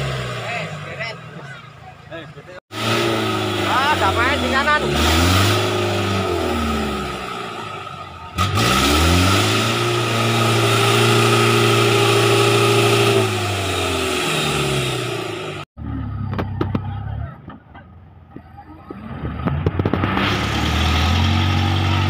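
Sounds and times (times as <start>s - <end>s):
off-road engine revving hard: 0.0s - 1.6s, 2.6s - 16.2s, 19.0s - 22.0s.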